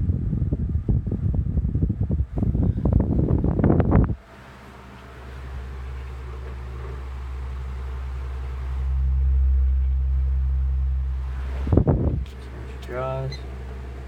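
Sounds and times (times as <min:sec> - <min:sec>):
air rushing from fan blades: 0:00.0 - 0:14.0
table fan motor hum: 0:00.4 - 0:14.0.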